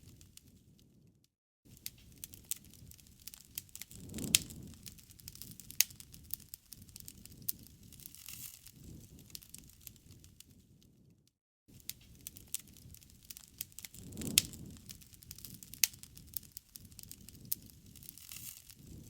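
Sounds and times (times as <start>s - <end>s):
campfire crackling and popping: 0.0s - 0.8s, 1.7s - 10.8s, 11.7s - 19.0s.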